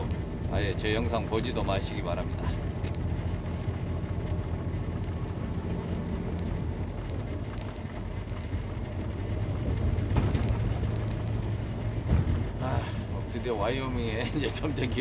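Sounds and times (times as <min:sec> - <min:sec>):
road and tyre noise: 0:00.0 - 0:15.0
truck engine drone: 0:00.0 - 0:15.0.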